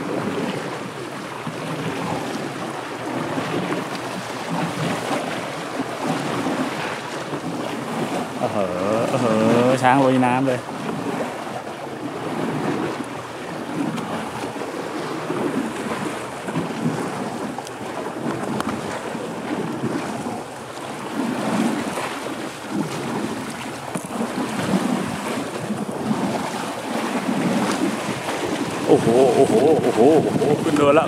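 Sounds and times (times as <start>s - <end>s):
water sloshing and splashing: 0.0s - 31.0s.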